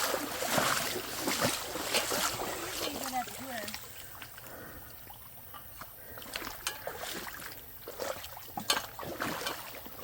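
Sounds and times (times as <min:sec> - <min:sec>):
water trickling in a stream: 0:00.0 - 0:10.0.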